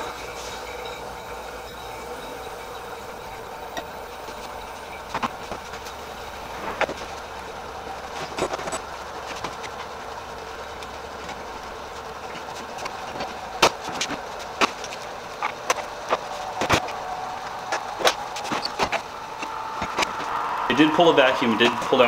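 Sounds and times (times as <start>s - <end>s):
vacuum pump running: 0.0s - 22.0s.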